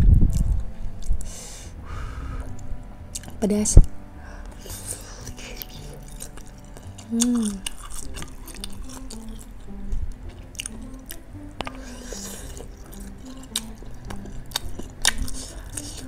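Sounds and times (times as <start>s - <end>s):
quiet background music: 0.0s - 16.0s
person chewing: 0.3s - 3.4s, 4.3s - 16.0s.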